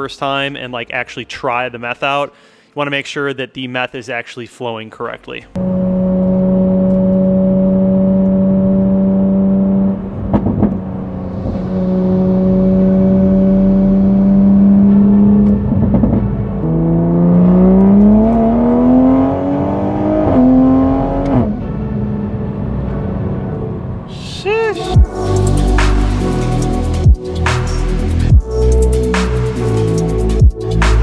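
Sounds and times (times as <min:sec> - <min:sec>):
car engine revving: 0:05.6 - 0:31.0.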